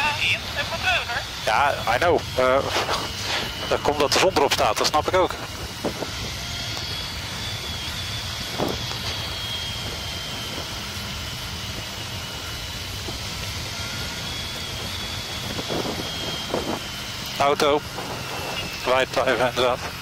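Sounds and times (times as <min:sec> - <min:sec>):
faint high whine: 0:00.0 - 0:20.0
motorcycle engine running: 0:00.0 - 0:20.0
wind and road noise: 0:00.0 - 0:20.0.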